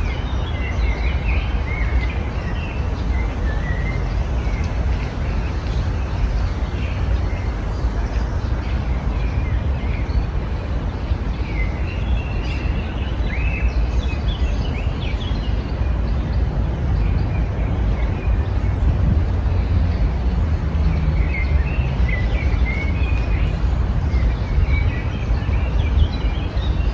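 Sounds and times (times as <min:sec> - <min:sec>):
songbirds chirping: 0:00.0 - 0:26.9.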